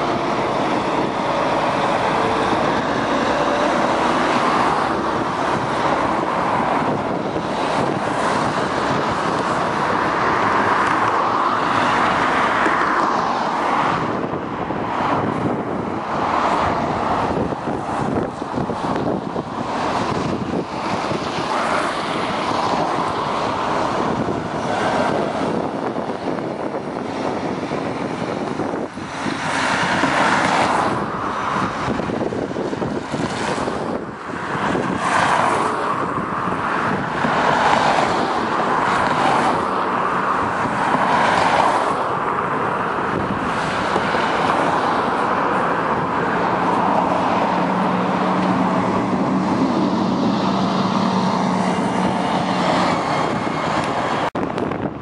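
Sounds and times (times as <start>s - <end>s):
bus engine humming: 0.0s - 12.9s, 13.6s - 40.9s, 41.5s - 55.0s
buses and cars passing: 0.0s - 55.0s.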